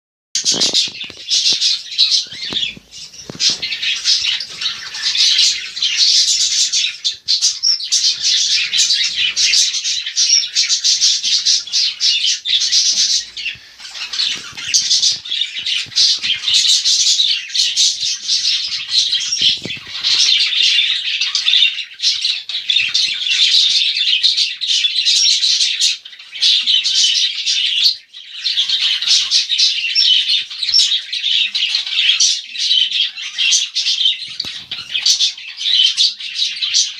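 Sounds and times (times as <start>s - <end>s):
parrots chattering and squawking: 0.4s - 36.9s.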